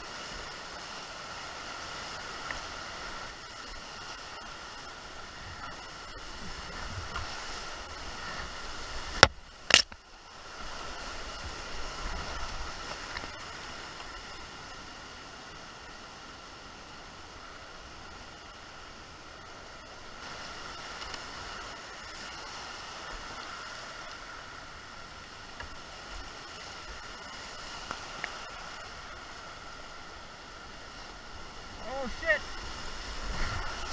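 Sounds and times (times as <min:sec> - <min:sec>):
flood water rushing: 0:00.0 - 0:33.9.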